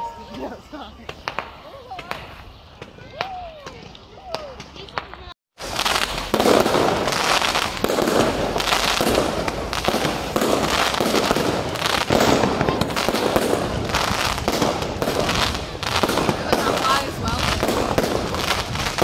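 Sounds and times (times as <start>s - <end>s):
fireworks bursting and crackling: 0.0s - 19.0s.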